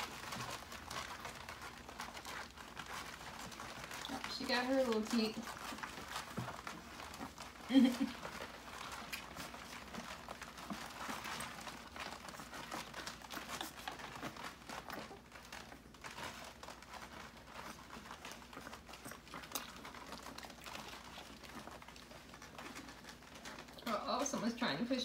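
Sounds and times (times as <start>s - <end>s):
puppies suckling: 0.0s - 25.0s.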